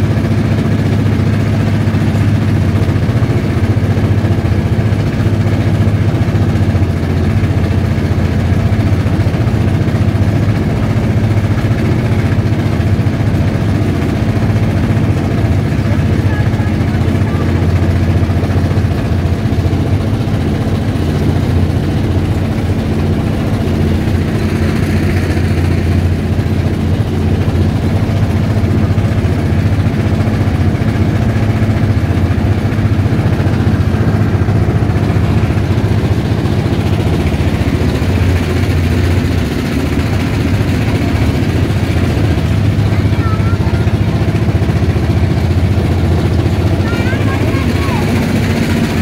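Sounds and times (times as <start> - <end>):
boat engine humming: 0.0 - 49.0.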